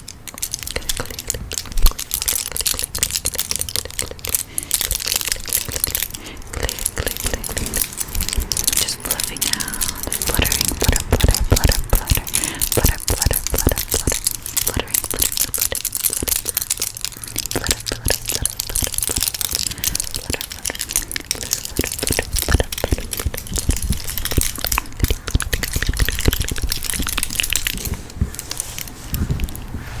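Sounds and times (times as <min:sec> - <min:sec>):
rapid clicking and tapping: 0:00.0 - 0:29.6
crinkly hiss: 0:00.0 - 0:30.0.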